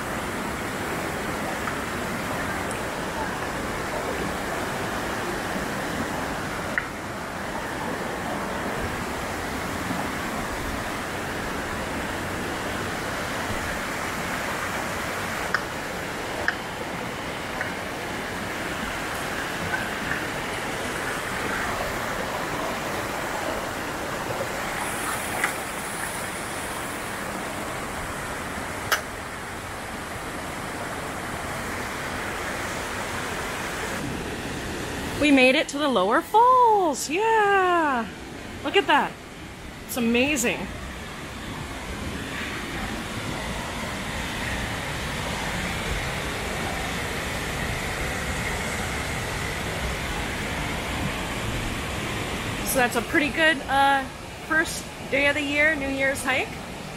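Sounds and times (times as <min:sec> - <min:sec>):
creek and waterfall over rocks: 0:00.0 - 0:56.9.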